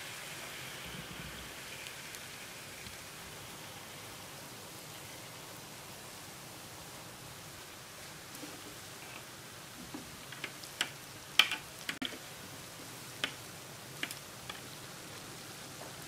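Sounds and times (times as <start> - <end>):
deep frying sizzle: 0.0 - 16.0.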